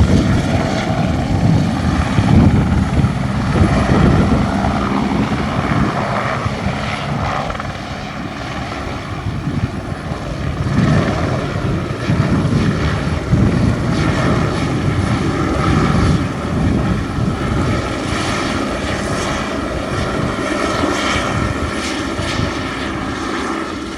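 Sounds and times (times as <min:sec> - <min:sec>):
helicopter rotor chop: 0:00.0 - 0:23.9
helicopter turbine whine: 0:00.0 - 0:23.9.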